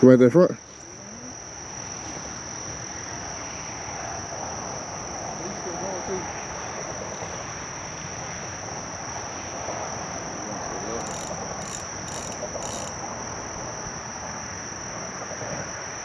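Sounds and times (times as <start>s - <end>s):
short high-pitched insect calls: 0.0s - 14.8s
crickets trilling: 0.0s - 16.0s.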